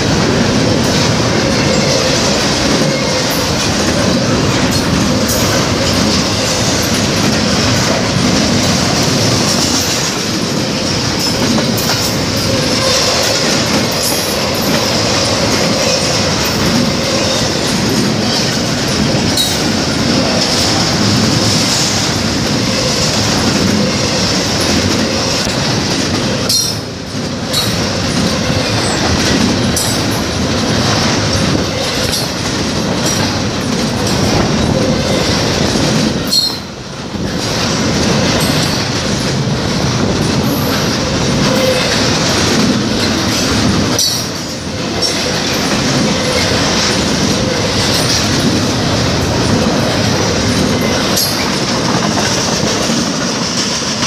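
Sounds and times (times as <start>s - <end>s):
freight train rumbling and rattling: 0.0s - 54.0s
wheels clicking over rail joints: 0.0s - 54.0s.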